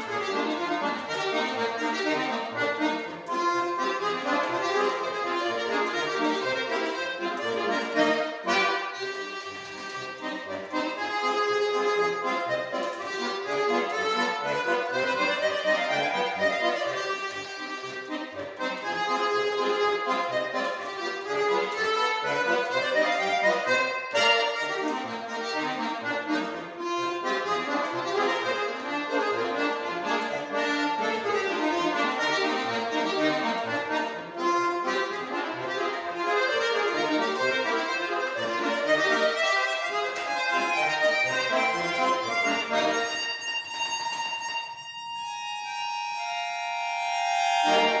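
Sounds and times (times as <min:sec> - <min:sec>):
button accordion melody: 0:00.0 - 0:48.0.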